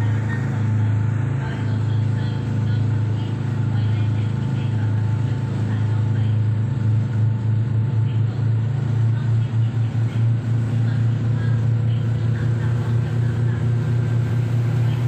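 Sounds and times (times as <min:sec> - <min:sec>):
ferry engine droning: 0:00.0 - 0:15.0.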